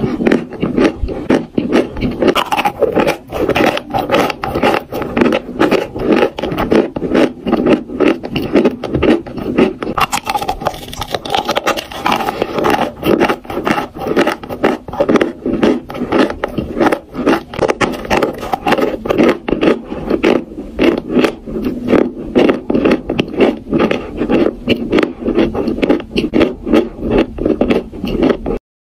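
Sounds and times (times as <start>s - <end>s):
chalk being chewed: 0.0s - 28.6s.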